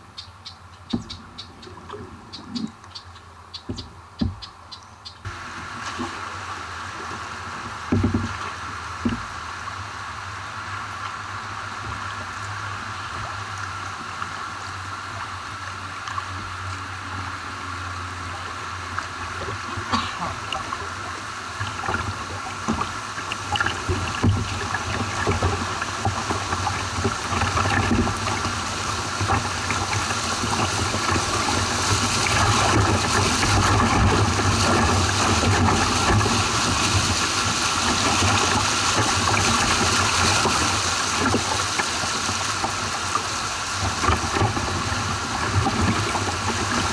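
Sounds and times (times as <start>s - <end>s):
water rushing over weir: 0.9s - 46.9s.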